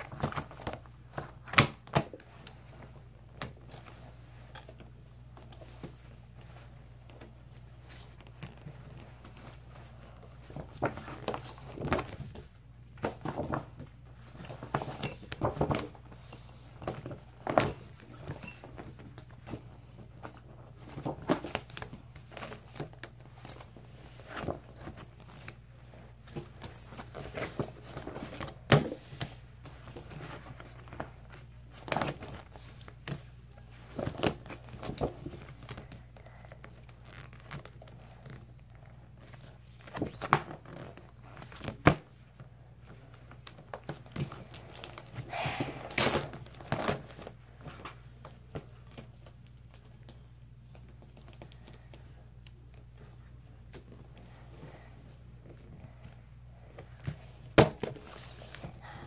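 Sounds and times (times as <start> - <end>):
folders rustling and crinkling: 0.0 - 59.0.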